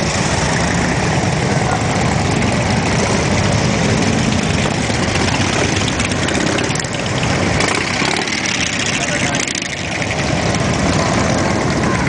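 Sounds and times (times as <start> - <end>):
motorcycles rolling past: 0.0 - 12.0.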